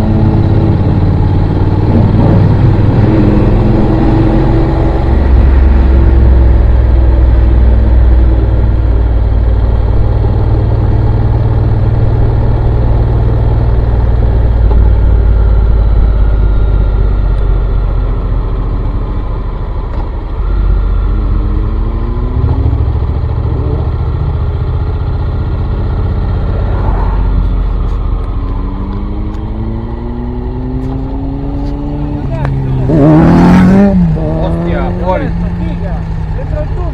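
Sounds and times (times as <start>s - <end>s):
motorcycle accelerating through gears: 0.0s - 36.9s
motorcycle engine rumbling: 0.0s - 36.9s.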